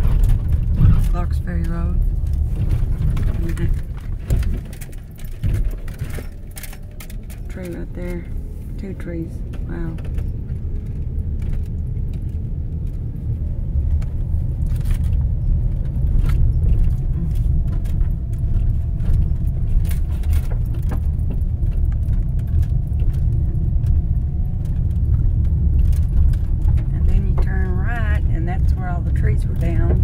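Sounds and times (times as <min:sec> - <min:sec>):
car engine and tyres rumbling: 0:00.0 - 0:30.0
clicks and rattles over bumps: 0:00.0 - 0:30.0.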